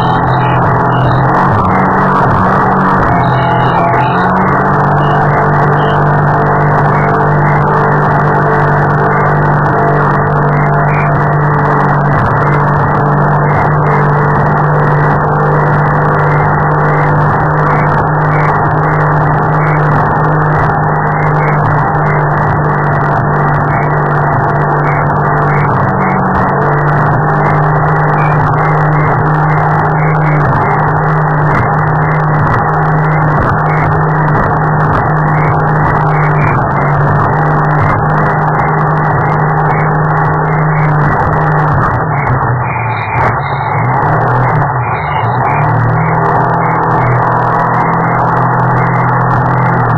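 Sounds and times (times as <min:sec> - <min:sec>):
boat engine running hard: 0:00.0 - 0:49.9.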